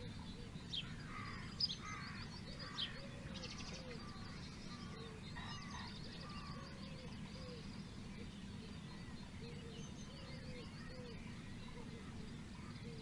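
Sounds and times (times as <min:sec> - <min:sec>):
birds calling and chirping: 0:00.0 - 0:13.0
low background rumble: 0:00.0 - 0:13.0.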